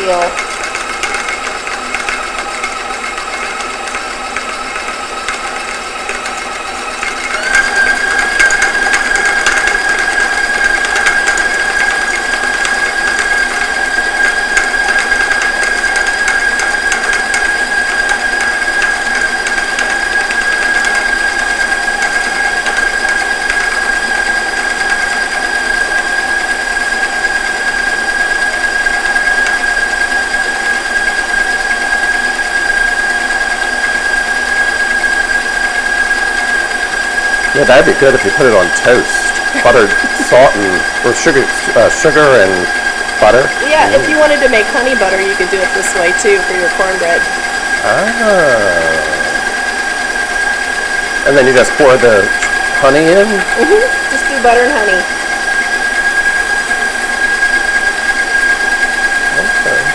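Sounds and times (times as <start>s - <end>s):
stand mixer motor whining: 0.0s - 59.9s.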